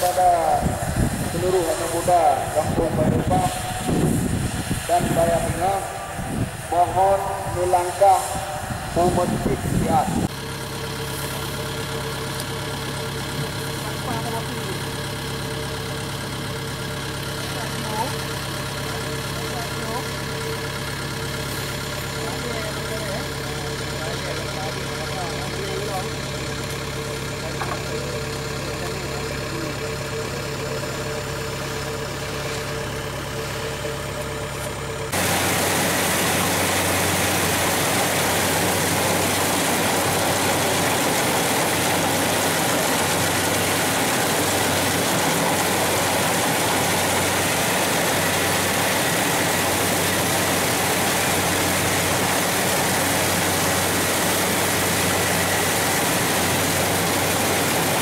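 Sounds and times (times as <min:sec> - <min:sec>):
combine harvester rushing noise: 0:00.0 - 0:58.0
engine idling hum: 0:00.0 - 0:58.0.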